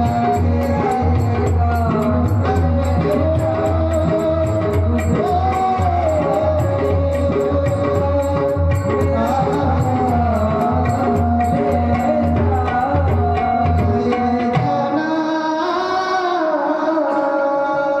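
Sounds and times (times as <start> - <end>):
person singing: 0.0 - 18.0
tabla playing: 0.0 - 18.0.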